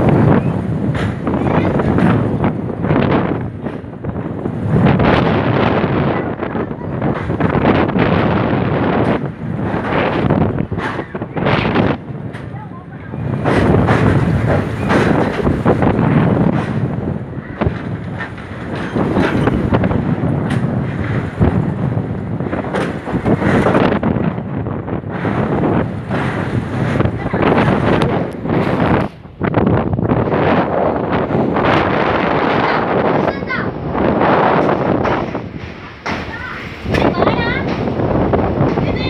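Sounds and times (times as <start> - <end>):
train running noise: 0.0 - 39.0
wind buffeting microphone: 0.0 - 39.0.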